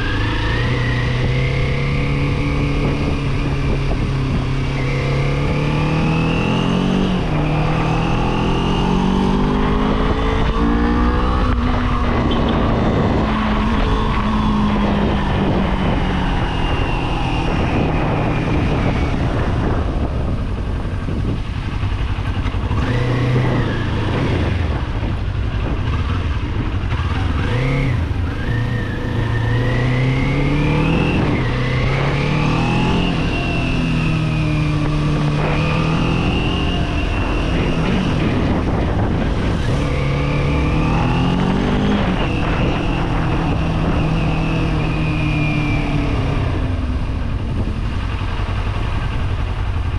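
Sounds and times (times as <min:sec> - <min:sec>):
motorcycle engine revving: 0:00.0 - 0:49.9
wind and road noise: 0:00.0 - 0:49.9.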